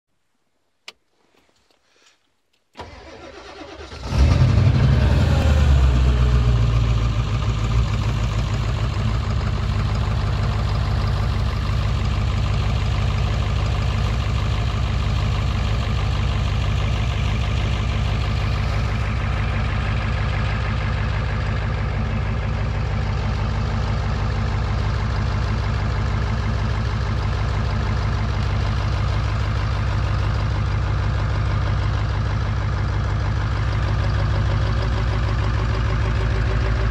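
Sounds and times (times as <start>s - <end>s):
diesel engine cranking and starting: 2.7s - 36.9s
diesel engine idling: 2.8s - 36.9s.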